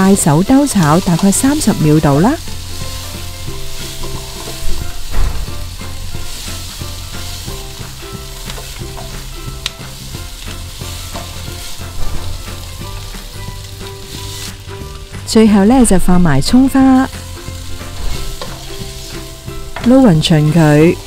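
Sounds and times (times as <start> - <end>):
food sizzling in a wok: 0.0 - 21.0
spatula scraping and knocking pan: 0.5 - 14.9, 17.2 - 20.7.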